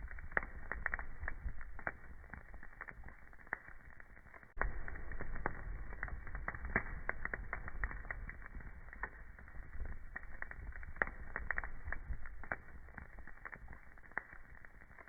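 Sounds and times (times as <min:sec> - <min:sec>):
logs crackling and popping: 0:00.0 - 0:15.0
low rumble of fire: 0:00.0 - 0:15.0.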